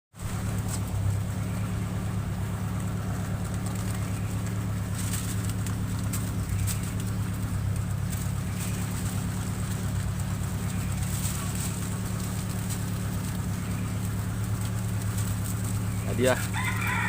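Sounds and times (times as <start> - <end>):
low droning hum: 0.2 - 17.0.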